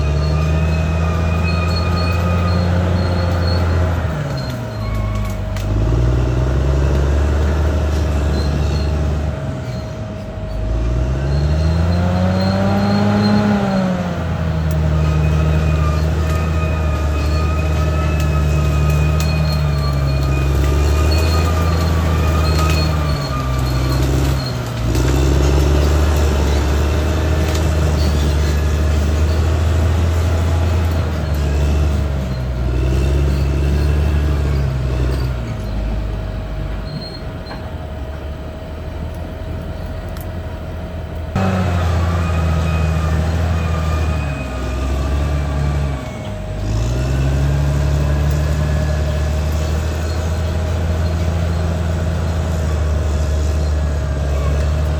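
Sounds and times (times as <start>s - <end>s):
high-pitched squeals: 0.0s - 37.8s, 41.4s - 54.9s
bulldozer diesel engine lugging: 0.0s - 54.9s.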